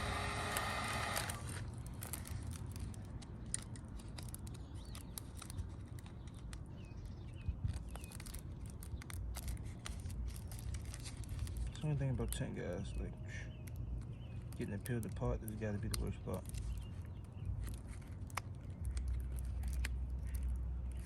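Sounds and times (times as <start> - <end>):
plastic film peeling crackles: 0.0 - 21.0.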